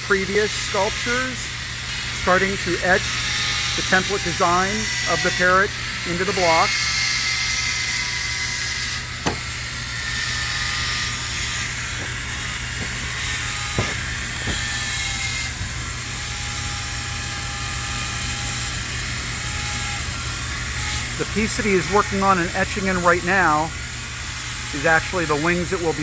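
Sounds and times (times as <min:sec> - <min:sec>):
power tool whining on ice: 0:00.0 - 0:26.0.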